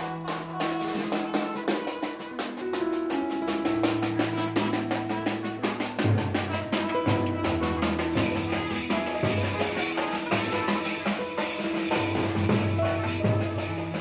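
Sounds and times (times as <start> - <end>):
drum beat: 0.0 - 14.0.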